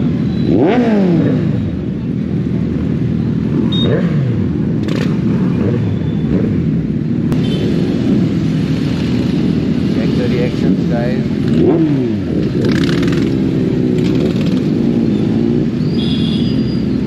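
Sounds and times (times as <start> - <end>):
motorcycle engine revving: 0.0 - 17.0
motorcycle engines running: 0.0 - 17.0.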